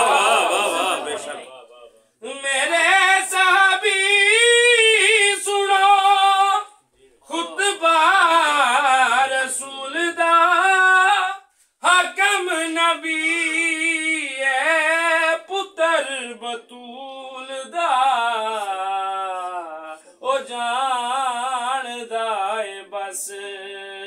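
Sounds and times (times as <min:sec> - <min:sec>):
man singing unaccompanied: 0:02.2 - 0:24.0.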